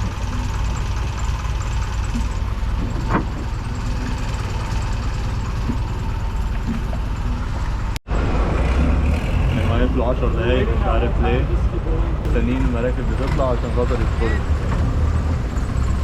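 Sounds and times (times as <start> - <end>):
boat engine idling: 0.0 - 8.0, 8.8 - 16.0.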